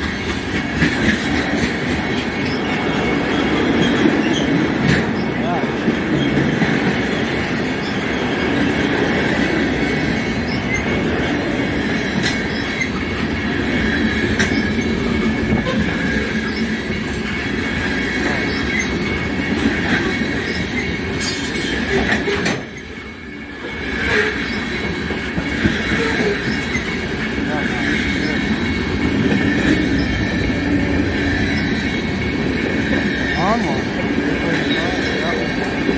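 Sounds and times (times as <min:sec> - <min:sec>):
clacks at rail joints: 0:00.0 - 0:35.9
train wheels squealing on rail: 0:00.0 - 0:35.9.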